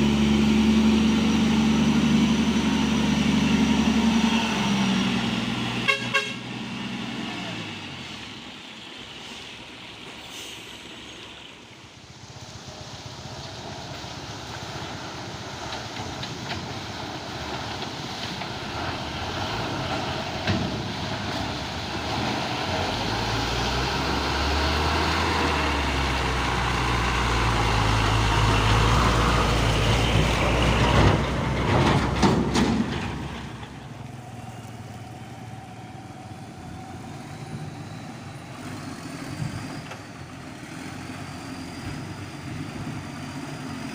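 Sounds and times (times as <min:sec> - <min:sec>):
diesel truck engine: 0:00.0 - 0:43.9.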